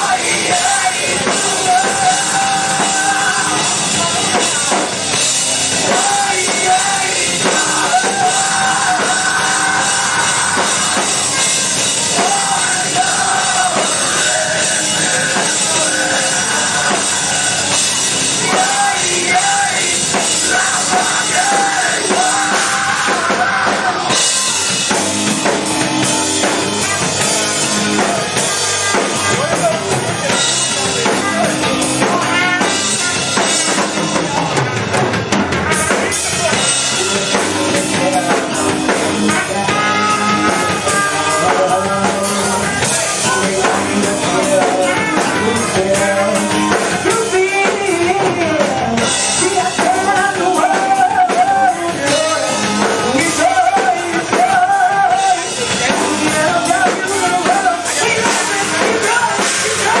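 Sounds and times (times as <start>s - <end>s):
person singing and rapping: 0.0s - 5.2s, 5.8s - 24.8s, 35.8s - 60.0s
live rock band playing: 0.0s - 60.0s.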